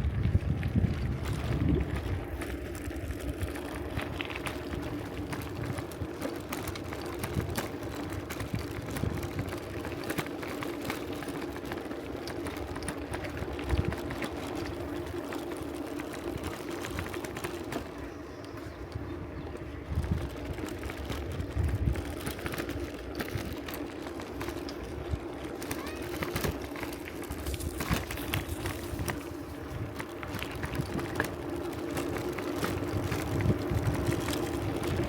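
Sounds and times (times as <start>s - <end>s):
bicycle rattling on rough road: 0.0s - 35.0s
constant low hum: 0.0s - 35.0s.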